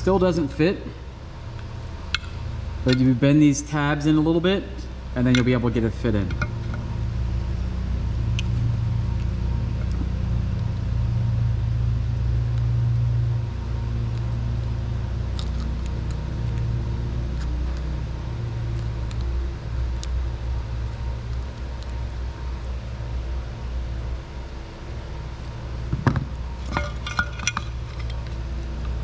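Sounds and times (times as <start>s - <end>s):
low mechanical rumble: 0.0s - 29.0s.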